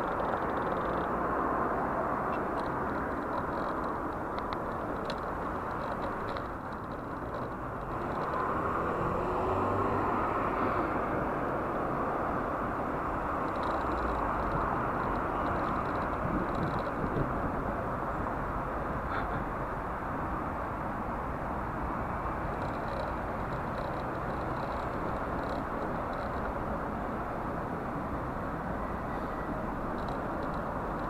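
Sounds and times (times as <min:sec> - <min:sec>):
bicycle road noise: 0:00.0 - 0:31.0
wind noise on microphone: 0:00.0 - 0:31.0.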